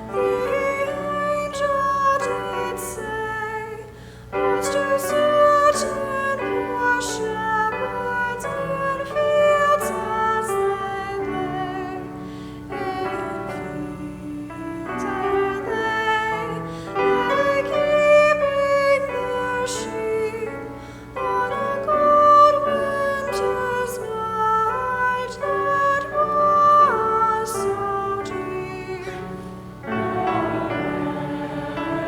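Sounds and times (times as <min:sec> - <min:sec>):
sacred singing with accompaniment: 0:00.0 - 0:32.0.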